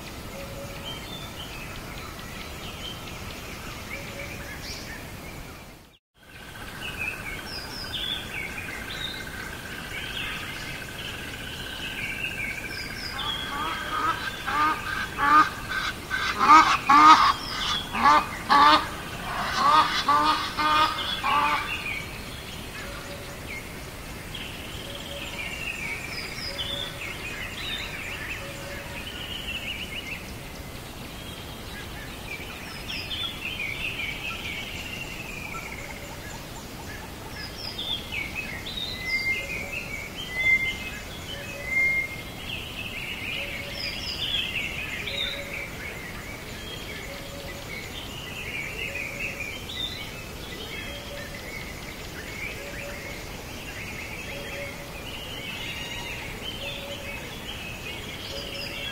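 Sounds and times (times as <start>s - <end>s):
birds calling: 6.8s - 58.9s.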